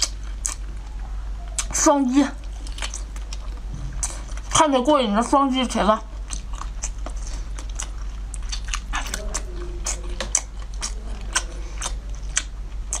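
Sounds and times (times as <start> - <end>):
chewing with mouth clicks: 0.0 - 0.9, 2.4 - 4.7, 5.6 - 13.0
steady low hum: 0.0 - 13.0.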